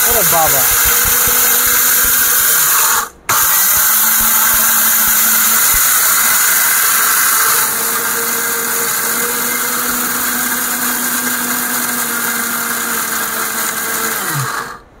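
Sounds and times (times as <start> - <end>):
mixer grinder whirring: 0.0 - 15.0.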